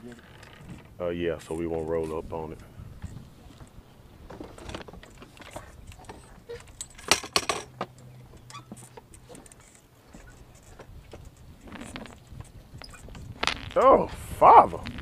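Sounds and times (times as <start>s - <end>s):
fishing gear clicking and rattling: 0.0s - 2.4s, 3.0s - 13.9s.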